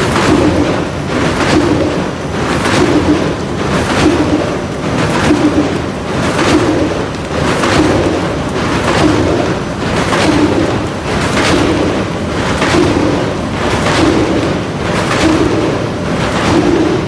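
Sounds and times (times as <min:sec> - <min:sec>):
loud machine din: 0:00.0 - 0:17.0
rustling clatter of cardboard sheets: 0:00.0 - 0:17.0.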